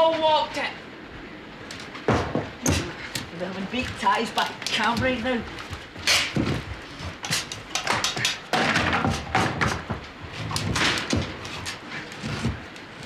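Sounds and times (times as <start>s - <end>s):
wood cracking and snapping: 1.7s - 13.0s.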